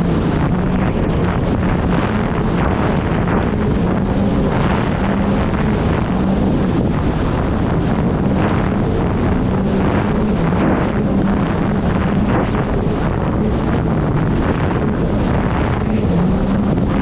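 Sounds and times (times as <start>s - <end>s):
jet ski engine drone: 0.0s - 17.0s
wind buffeting microphone: 0.0s - 17.0s.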